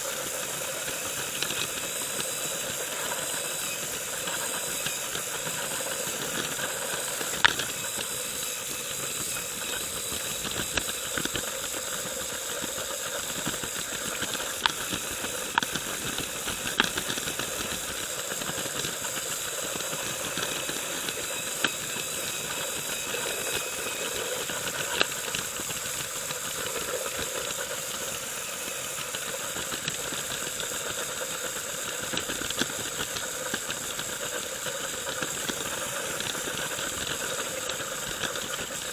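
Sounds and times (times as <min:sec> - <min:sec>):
toy train motor whirring: 0:00.0 - 0:38.9.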